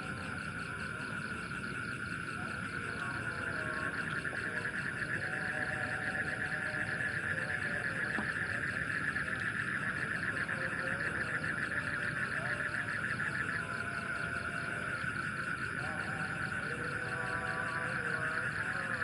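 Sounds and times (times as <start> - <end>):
faint wavering calls: 0.0 - 19.0.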